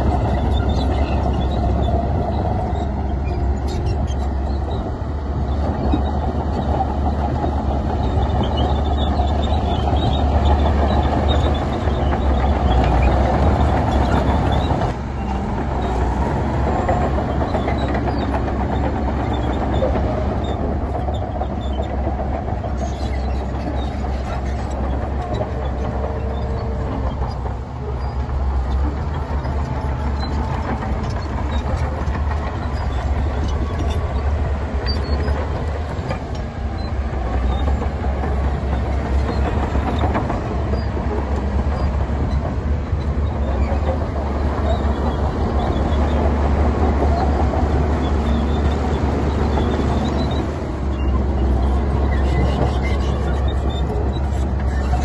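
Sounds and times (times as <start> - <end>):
diesel earthmoving machinery rumbling: 0.0 - 55.0.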